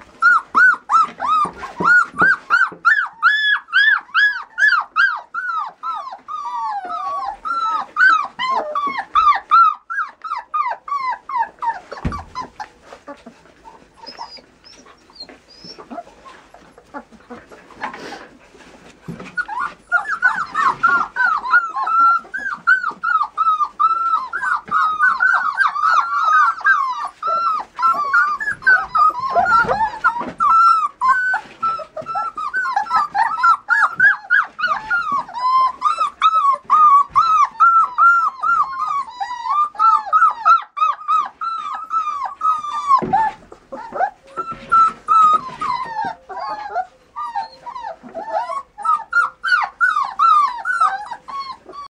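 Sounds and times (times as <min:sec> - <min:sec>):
puppies whining and yipping: 0:00.0 - 0:51.9.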